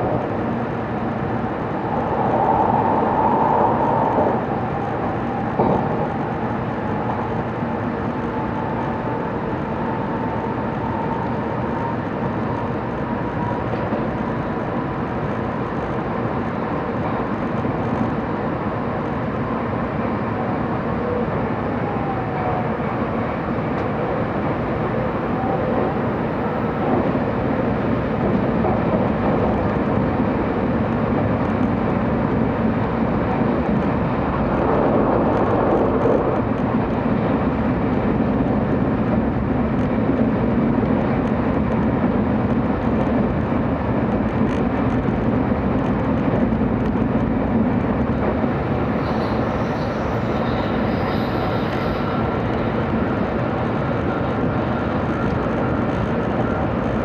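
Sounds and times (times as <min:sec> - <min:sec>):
train rumble inside passenger car: 0:00.0 - 0:57.0.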